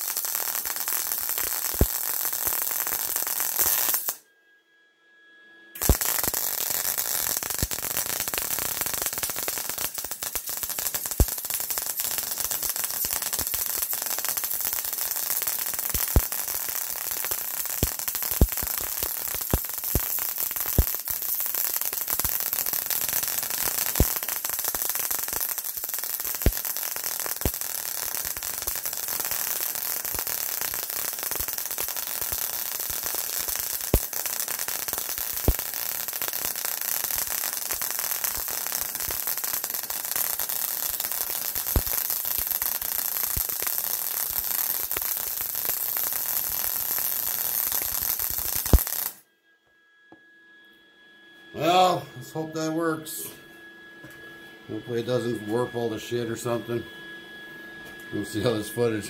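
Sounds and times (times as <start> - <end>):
arc welder hissing and popping: 0.0 - 4.2, 5.8 - 49.2.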